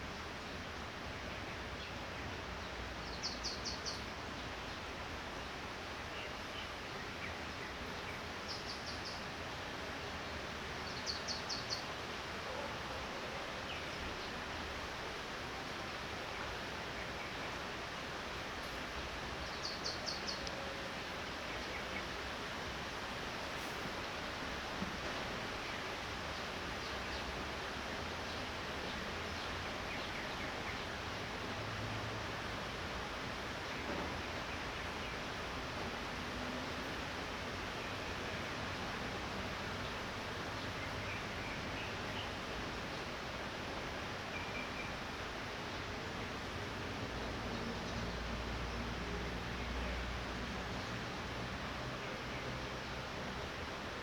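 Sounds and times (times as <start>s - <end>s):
light rain hissing: 0.0s - 54.0s.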